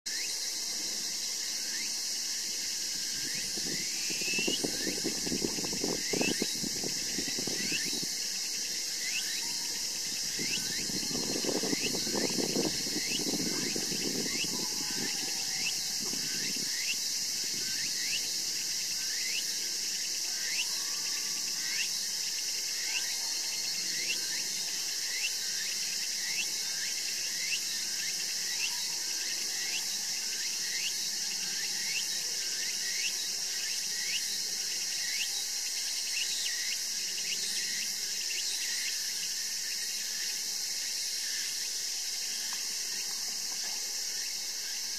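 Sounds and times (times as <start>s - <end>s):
high insect chorus: 0.1s - 44.9s.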